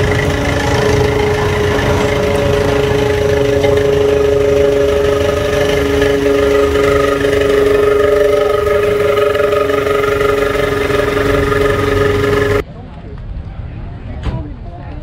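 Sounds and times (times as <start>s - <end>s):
car engine running: 0.0s - 12.6s.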